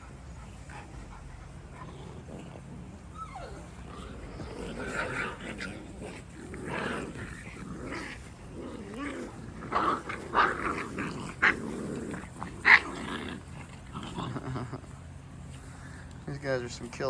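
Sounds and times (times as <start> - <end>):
puppies yipping: 0.0 - 15.0
puppies growling: 0.0 - 16.3.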